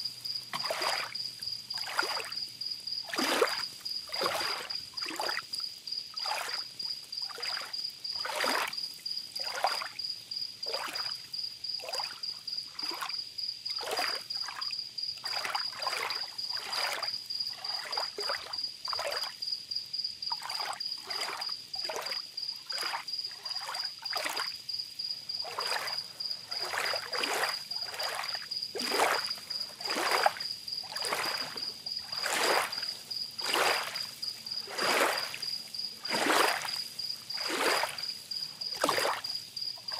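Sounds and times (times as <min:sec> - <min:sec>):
small waves lapping on beach: 0:00.0 - 0:10.0, 0:10.6 - 0:19.4, 0:20.3 - 0:39.9
crickets chirping: 0:00.0 - 0:39.9.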